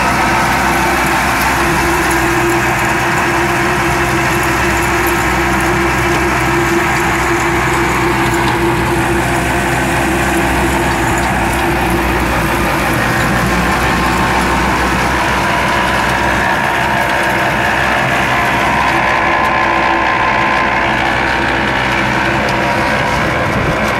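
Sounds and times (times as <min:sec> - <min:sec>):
tractor engine and crusher hum: 0:00.0 - 0:23.9.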